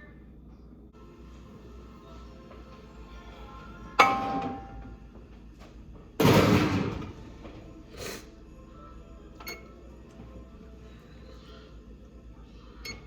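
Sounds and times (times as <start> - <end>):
faint music: 0.0 - 13.0.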